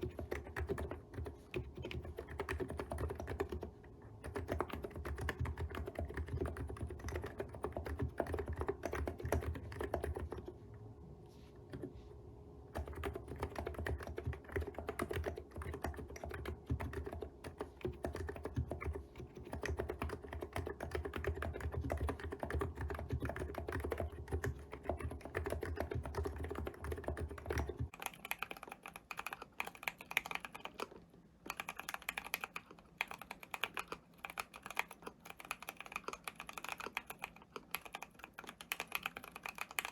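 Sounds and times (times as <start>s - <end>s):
fast typing on keyboard: 0.0s - 10.6s, 12.7s - 39.9s.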